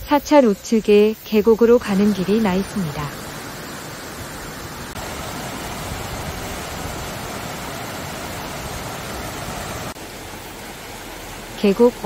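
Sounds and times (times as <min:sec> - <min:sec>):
stream rushing over rock: 0:01.8 - 0:12.0.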